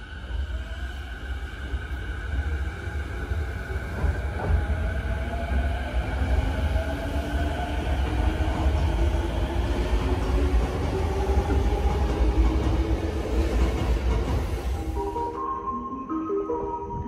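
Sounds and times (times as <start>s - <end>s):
train wheels rumbling on rail: 0.1s - 15.2s.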